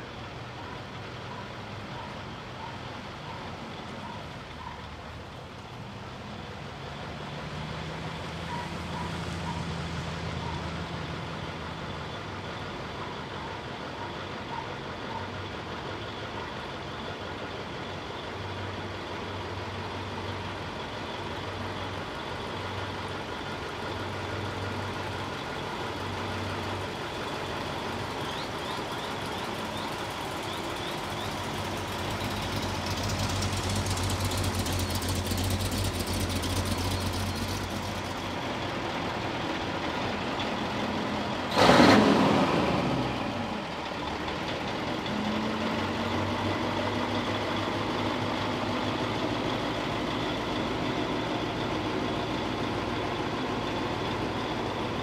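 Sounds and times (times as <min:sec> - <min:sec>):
truck diesel engine passing: 0:00.0 - 0:55.0.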